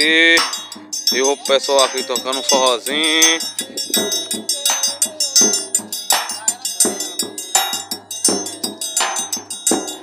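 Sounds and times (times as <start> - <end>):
high ringing: 0.0 - 10.0
percussion beat: 0.0 - 10.0.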